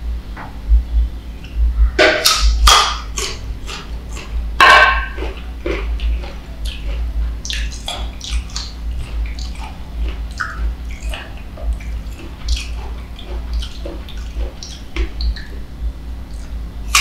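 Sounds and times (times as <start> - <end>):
steady low hum: 0.0 - 17.0
wet chewing and mouth sounds: 1.4 - 17.0.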